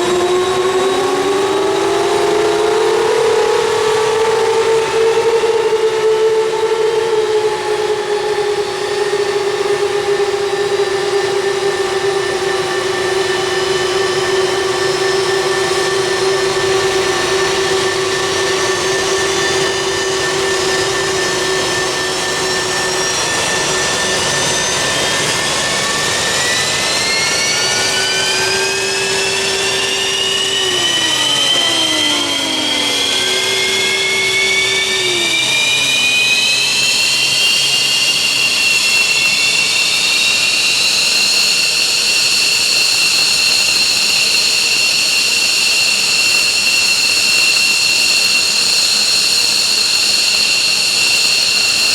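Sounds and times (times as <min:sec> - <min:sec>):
jet engine whine: 0:00.0 - 0:51.9.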